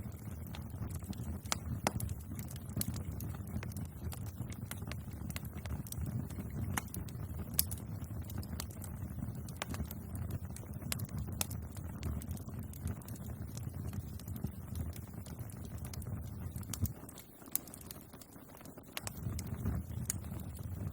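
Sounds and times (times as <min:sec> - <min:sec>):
low rumble of flames: 0:00.0 - 0:20.9
wood fire crackling and popping: 0:00.0 - 0:20.9.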